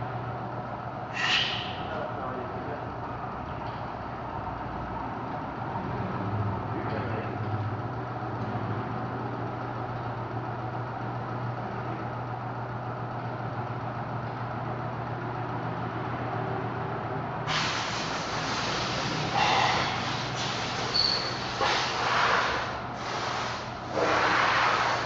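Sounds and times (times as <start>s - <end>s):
low workshop hum: 0.0s - 25.0s.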